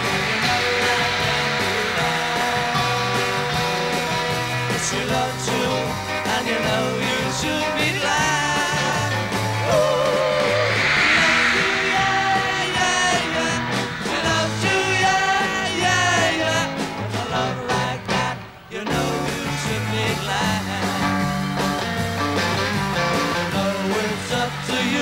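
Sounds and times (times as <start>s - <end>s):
rock and roll song: 0.0s - 25.0s.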